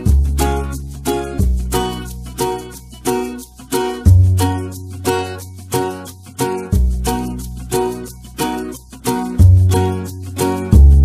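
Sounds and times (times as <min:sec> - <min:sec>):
plucked-string tune: 0:00.0 - 0:11.0.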